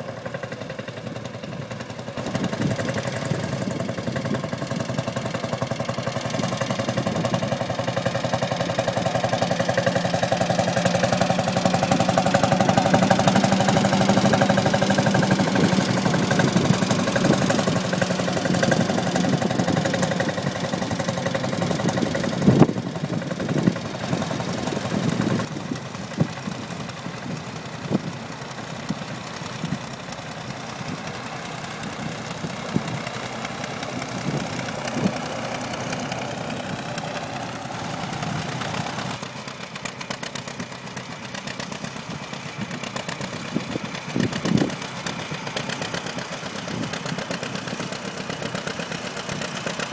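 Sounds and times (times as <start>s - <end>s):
tractor engines passing: 0.0s - 49.9s.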